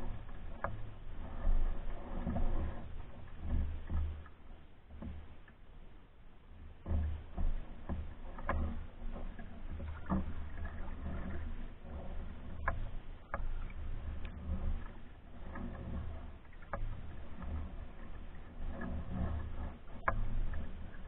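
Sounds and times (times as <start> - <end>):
paddle knocking canoe: 0.0 - 21.0
paddle splashing water: 0.0 - 21.0.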